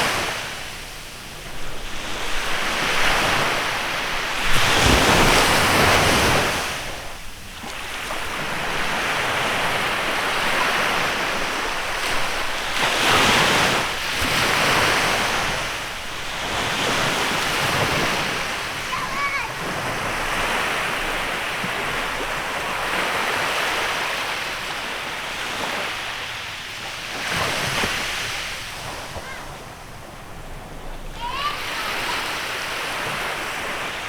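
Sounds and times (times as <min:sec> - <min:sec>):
sea waves breaking on beach: 0:00.0 - 0:34.0.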